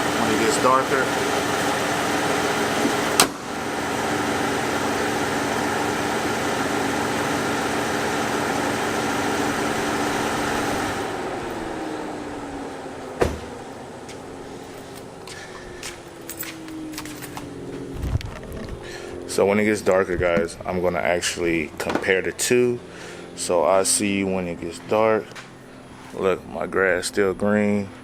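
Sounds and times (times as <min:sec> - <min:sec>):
car engine and fan hum: 0:00.0 - 0:28.0
falling whine: 0:00.0 - 0:28.0.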